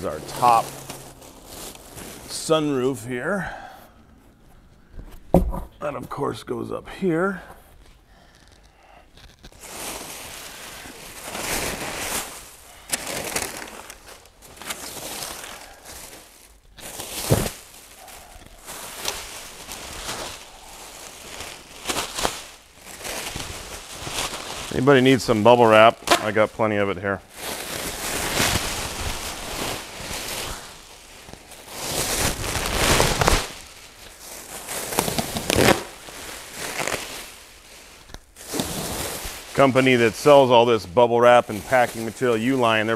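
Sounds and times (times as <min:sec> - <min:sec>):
sharp crackle: 0:00.0 - 0:02.4, 0:07.8 - 0:40.4
packing material rustling: 0:00.0 - 0:03.0, 0:07.7 - 0:42.9.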